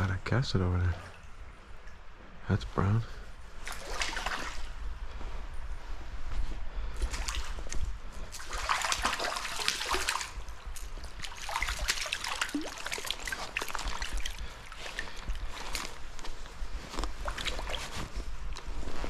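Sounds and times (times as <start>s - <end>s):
creek water splashing and trickling: 0.0s - 19.0s.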